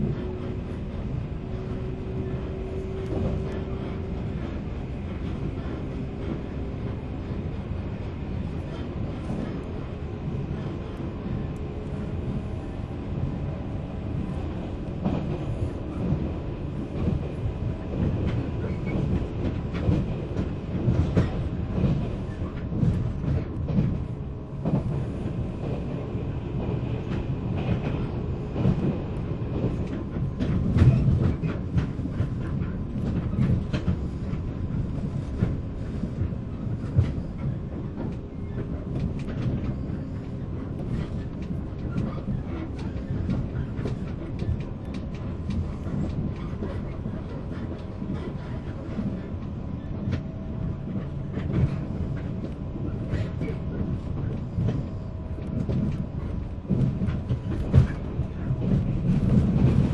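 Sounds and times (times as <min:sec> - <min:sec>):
train wheels clacking over joints: 0:00.0 - 0:12.5, 0:14.2 - 0:59.9.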